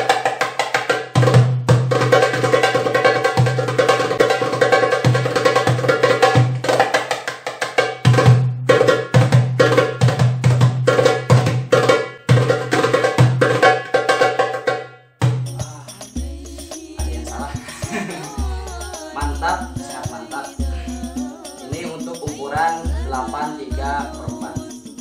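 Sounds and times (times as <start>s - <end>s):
goblet drum played by hand: 0.0s - 25.0s.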